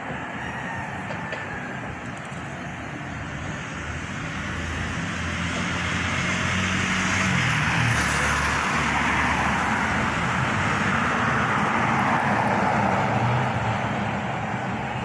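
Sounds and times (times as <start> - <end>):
road traffic noise: 0.0 - 15.0
vehicle engine hum approaching: 0.0 - 15.0.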